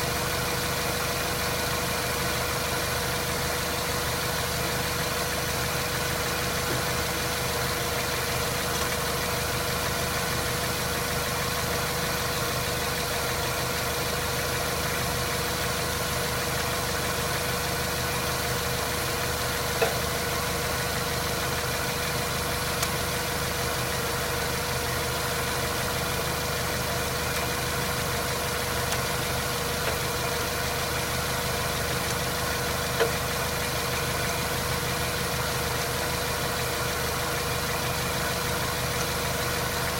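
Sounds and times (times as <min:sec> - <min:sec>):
car running with mechanical noise: 0:00.0 - 0:39.9.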